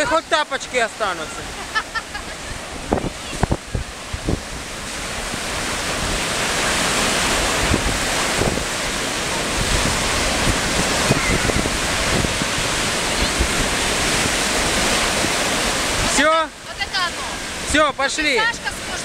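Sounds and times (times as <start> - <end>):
waves breaking on sand: 0.0 - 19.0
wind buffeting microphone: 1.4 - 17.7.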